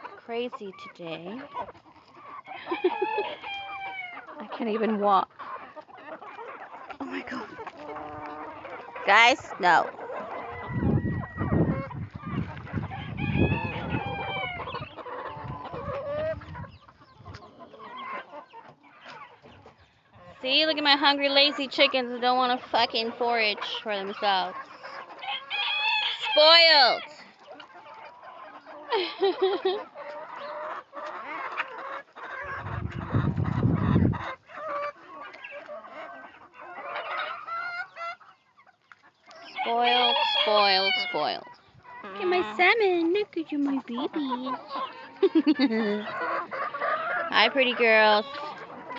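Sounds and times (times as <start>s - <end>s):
chickens clucking and squawking: 0.0s - 48.9s.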